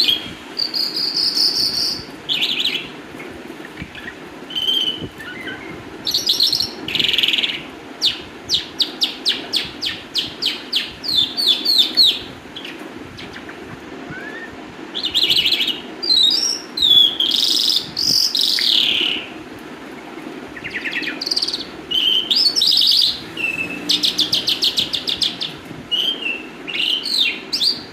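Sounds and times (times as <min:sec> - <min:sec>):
lark singing: 0:04.0 - 0:19.4, 0:20.6 - 0:27.9.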